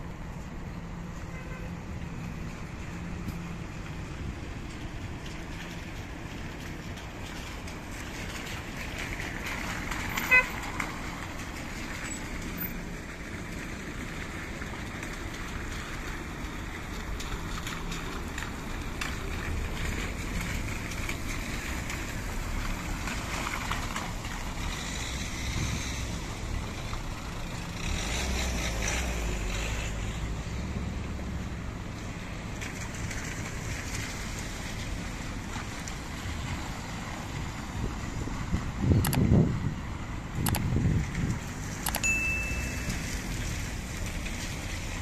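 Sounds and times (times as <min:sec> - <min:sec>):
car engine rumble: 0:00.0 - 0:45.0
tyres hissing on wet pavement: 0:00.0 - 0:45.0.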